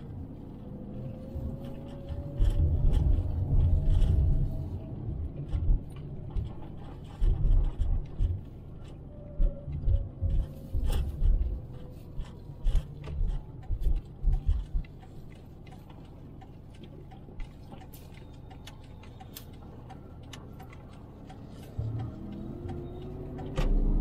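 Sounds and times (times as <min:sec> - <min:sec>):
steady low road hum: 0:00.0 - 0:24.0
light ticks and clicks: 0:01.3 - 0:24.0.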